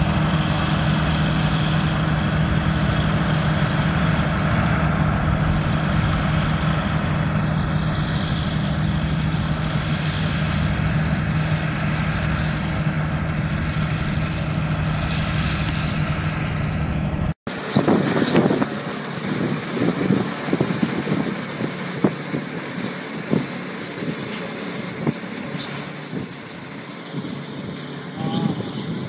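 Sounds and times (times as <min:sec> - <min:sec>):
steady motor hum: 0:00.0 - 0:29.0
tractor engine running: 0:00.0 - 0:29.0.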